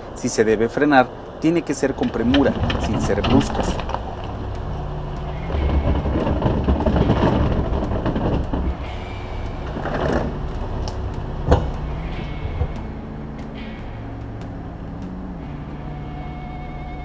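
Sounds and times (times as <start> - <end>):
tyres crunching on gravel: 0.0 - 15.6
low steady engine hum: 0.0 - 17.0.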